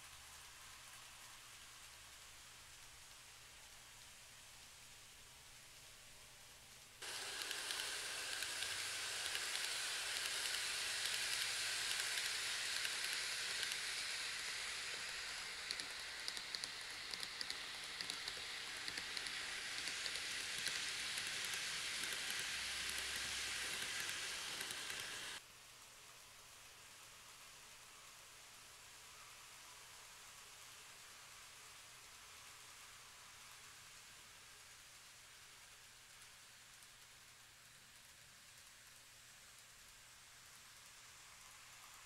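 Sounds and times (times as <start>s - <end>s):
model train whirring: 6.5s - 42.0s.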